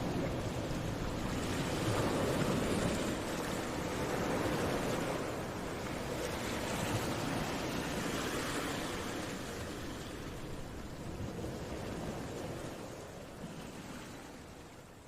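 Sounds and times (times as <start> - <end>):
ocean surf washing onto beach: 0.0 - 14.6.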